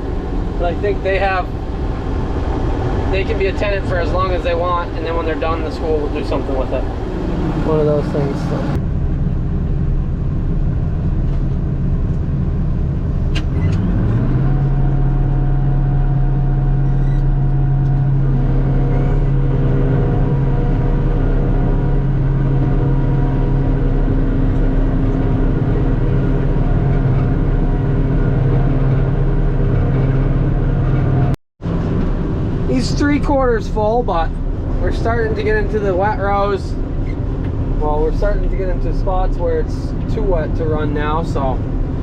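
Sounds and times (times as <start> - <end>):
large diesel engine running: 0.0 - 42.0.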